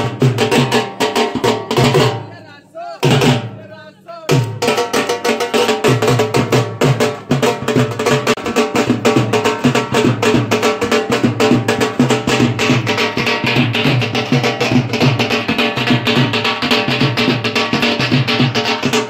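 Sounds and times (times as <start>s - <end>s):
dhol drums beaten with sticks: 0.0s - 19.0s.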